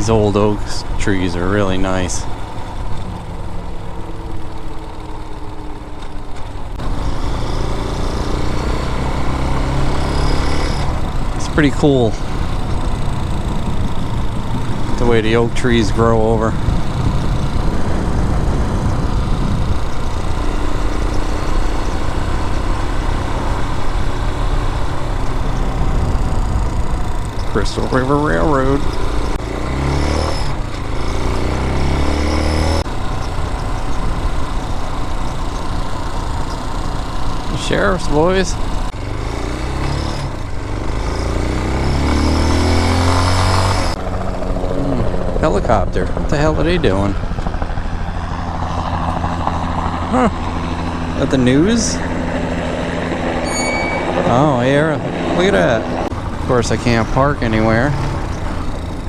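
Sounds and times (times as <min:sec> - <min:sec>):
dirt bike engine running: 0:00.0 - 0:59.0
road and wind rumble: 0:00.0 - 0:59.0.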